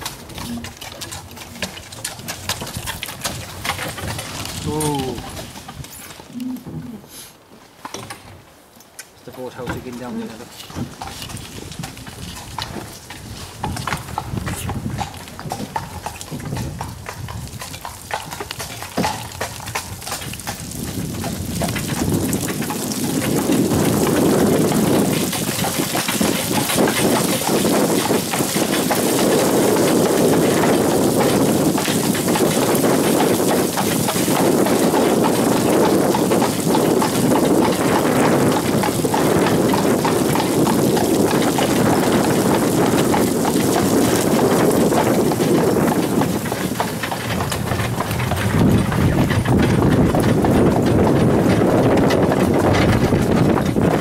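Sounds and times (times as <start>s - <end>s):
rushing wheel and wind noise: 0.0s - 6.3s, 9.3s - 54.0s
hooves clip-clopping: 0.0s - 54.0s.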